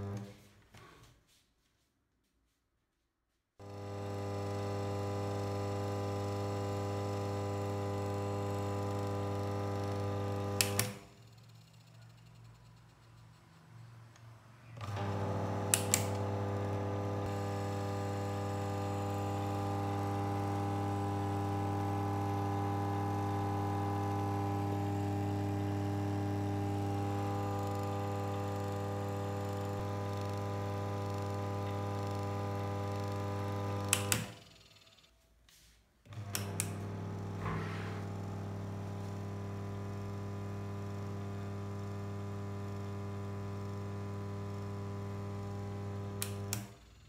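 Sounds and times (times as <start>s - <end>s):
washing machine motor humming: 0.0s - 0.3s, 3.6s - 11.0s, 14.7s - 35.0s, 36.0s - 47.0s.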